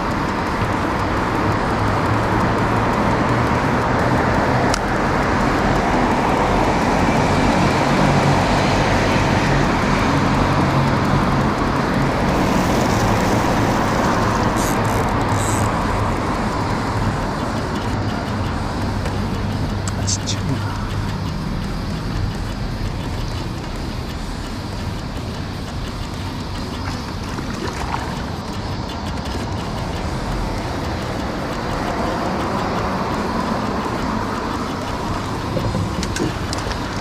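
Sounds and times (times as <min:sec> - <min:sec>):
click: 0:00.0 - 0:06.8, 0:10.3 - 0:37.0
boat motor running: 0:00.0 - 0:37.0
rushing noise: 0:00.0 - 0:37.0.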